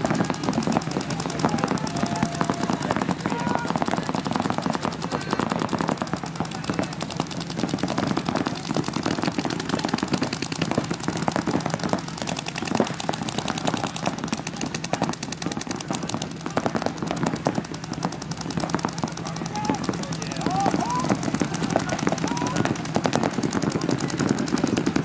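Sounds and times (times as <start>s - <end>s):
paintball markers firing rapidly: 0.0s - 25.0s.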